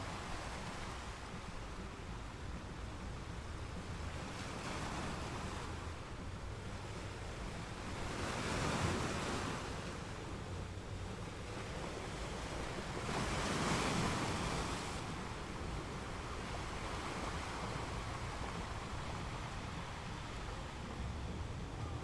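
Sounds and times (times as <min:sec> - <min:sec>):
ocean waves breaking on beach: 0:00.0 - 0:22.0
steady surf hiss: 0:00.0 - 0:22.0.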